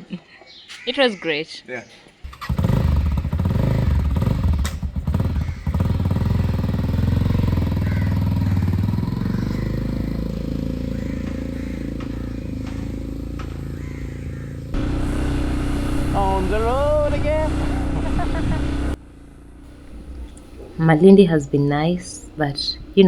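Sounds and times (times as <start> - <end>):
motorcycle engine running: 2.2 - 23.0.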